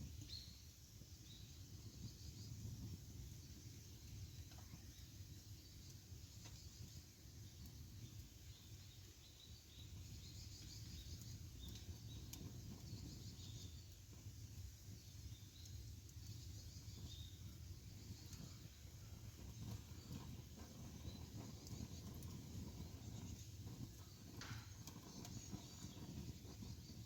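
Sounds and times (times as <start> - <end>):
campfire rumbling and crackling: 0.0 - 27.0.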